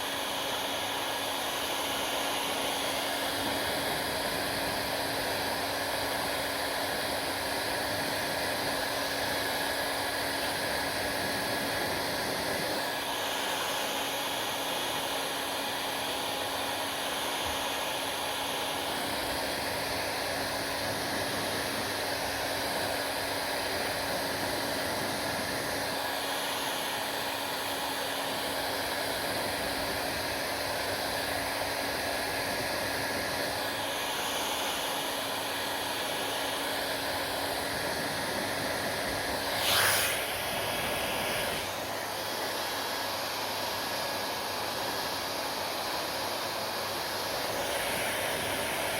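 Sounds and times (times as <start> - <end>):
hair dryer running: 0.0 - 48.9.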